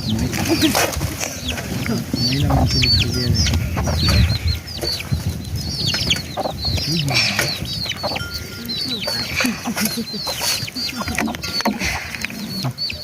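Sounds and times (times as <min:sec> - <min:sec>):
birds cheeping: 0:00.0 - 0:13.0.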